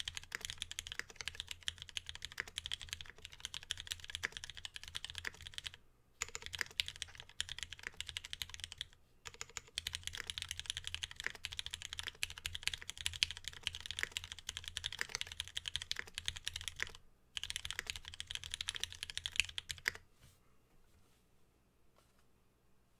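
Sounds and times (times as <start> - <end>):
fast mechanical keyboard typing: 0.0 - 20.0.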